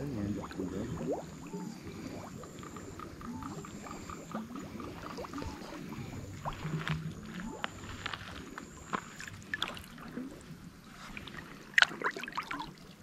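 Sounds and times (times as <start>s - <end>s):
muddy water sloshing: 0.0s - 13.0s.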